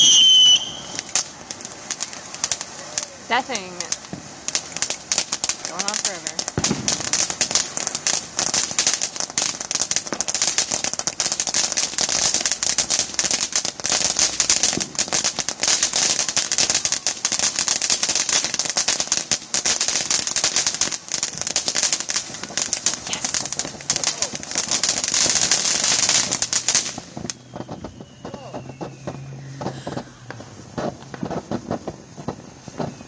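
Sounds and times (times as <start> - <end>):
firework fountain hissing and crackling: 0.0 - 33.0.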